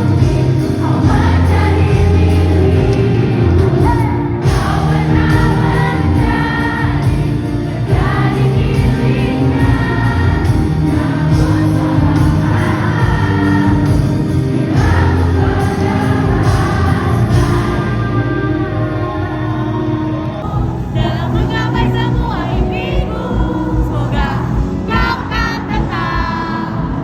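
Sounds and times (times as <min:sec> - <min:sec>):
choir-like backing vocals: 0:00.0 - 0:27.0
low bass: 0:00.0 - 0:27.0
song with sung vocals: 0:00.0 - 0:27.0.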